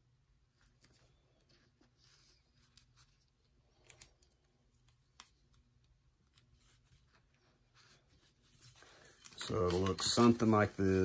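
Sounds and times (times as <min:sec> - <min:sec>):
faint clicks and rustles: 0:00.5 - 0:11.0.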